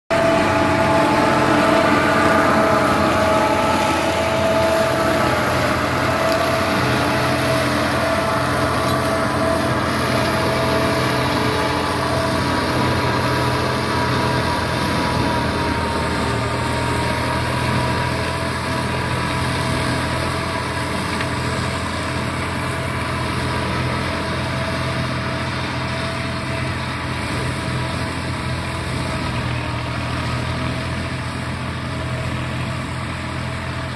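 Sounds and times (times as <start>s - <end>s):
tractor engine drone: 0.0s - 33.9s
shredder chopping dry leaves: 0.1s - 29.6s.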